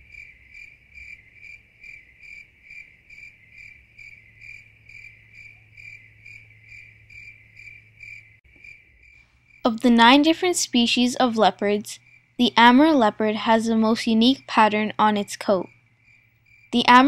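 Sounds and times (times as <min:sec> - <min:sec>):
cricket chirping: 0:00.0 - 0:09.7, 0:12.0 - 0:12.4, 0:13.4 - 0:17.0
faint low hum: 0:00.0 - 0:17.0.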